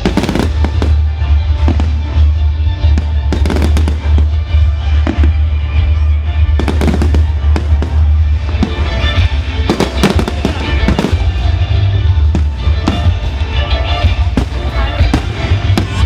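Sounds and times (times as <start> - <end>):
fireworks bangs and crackles: 0.0 - 16.0
music: 0.0 - 16.0.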